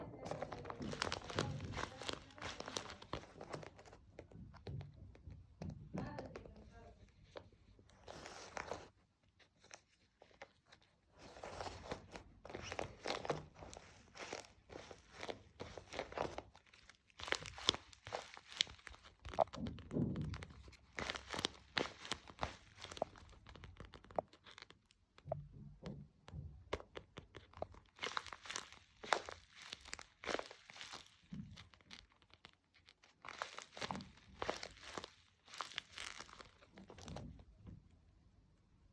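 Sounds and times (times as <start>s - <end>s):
paper crinkling and rustling: 0.1s - 4.8s, 6.1s - 25.2s, 26.7s - 37.5s.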